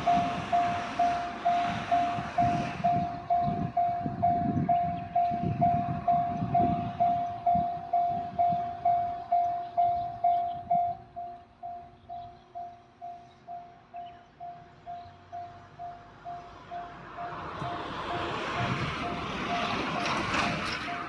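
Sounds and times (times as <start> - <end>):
electric train passing: 0.0 - 21.0
level-crossing warning bell ringing: 0.0 - 21.0.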